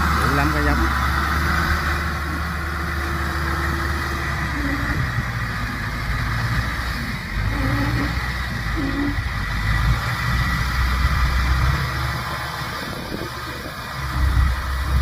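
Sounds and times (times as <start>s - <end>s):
tracked carrier engine running: 0.0s - 15.0s.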